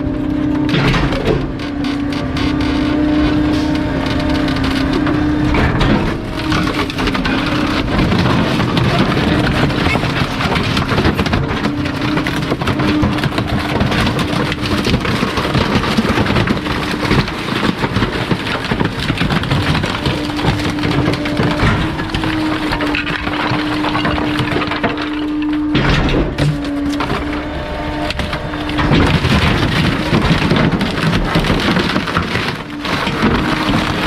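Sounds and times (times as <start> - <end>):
compactor crushing waste: 0.0 - 34.0
steady humming: 0.0 - 34.0.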